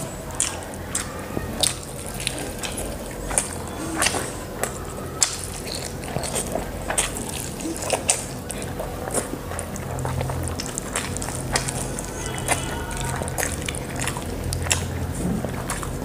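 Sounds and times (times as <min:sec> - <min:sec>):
person chewing and smacking: 0:00.0 - 0:16.0.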